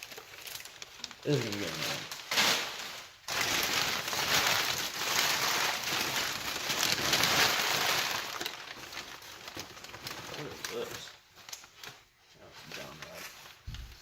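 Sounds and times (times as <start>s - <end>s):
packing paper crumpling: 0.0s - 14.0s.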